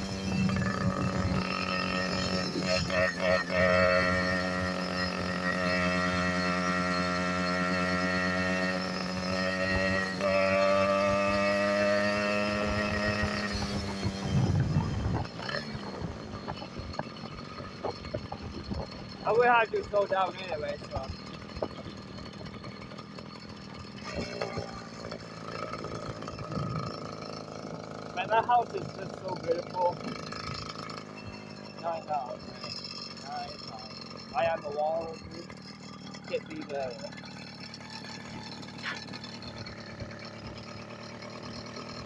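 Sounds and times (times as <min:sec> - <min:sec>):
small engine running steadily: 0:00.0 - 0:42.0.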